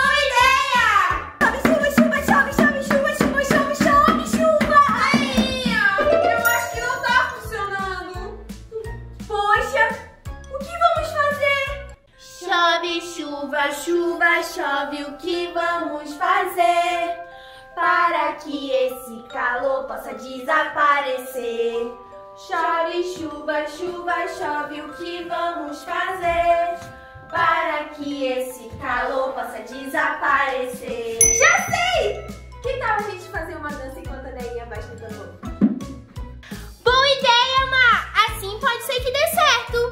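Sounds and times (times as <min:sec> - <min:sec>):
woman singing children's song: 0:00.0 - 0:35.1.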